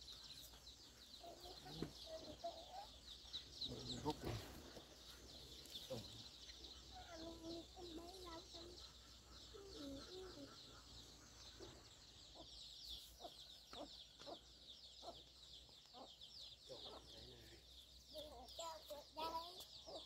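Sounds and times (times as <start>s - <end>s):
chickens clucking: 0.1s - 20.0s.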